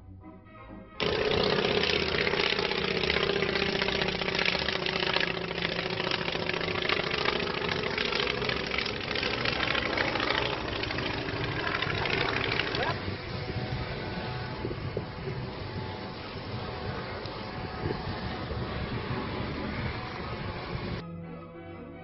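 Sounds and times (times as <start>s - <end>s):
plane piston engine overhead: 1.0s - 21.0s.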